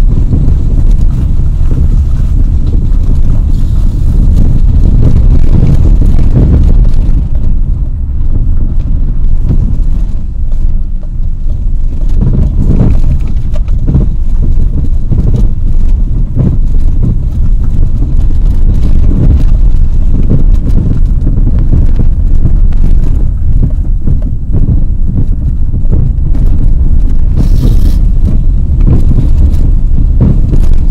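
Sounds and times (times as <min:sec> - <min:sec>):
car engine and tyres rumbling: 0:00.0 - 0:30.9.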